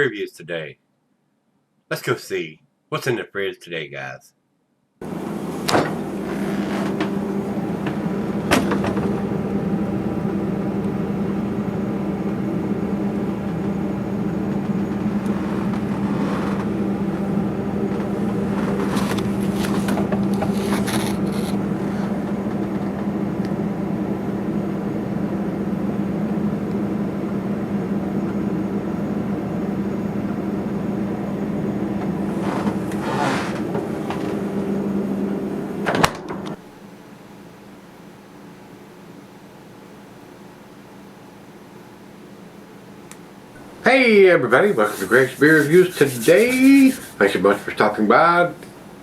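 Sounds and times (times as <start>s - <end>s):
machine hum: 5.0s - 49.0s.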